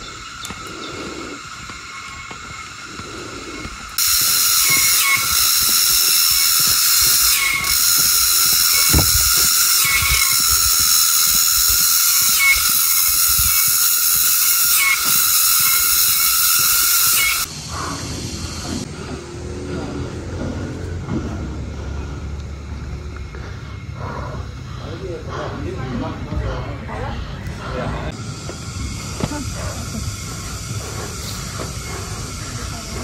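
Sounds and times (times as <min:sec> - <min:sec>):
cicadas buzzing: 0:00.0 - 0:25.8, 0:28.1 - 0:33.0.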